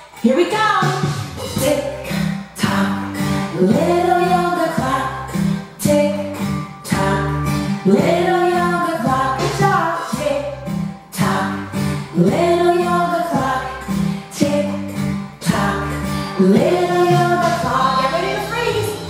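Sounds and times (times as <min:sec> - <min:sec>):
instrumental backing music: 0:00.0 - 0:19.0
woman singing: 0:00.2 - 0:19.0.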